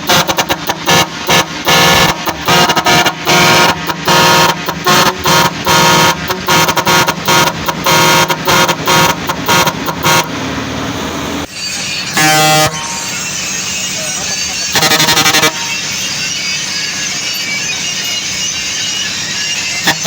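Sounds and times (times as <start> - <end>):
truck horn toots: 0.0 - 16.0, 19.8 - 20.0
engine rumble: 0.0 - 20.0.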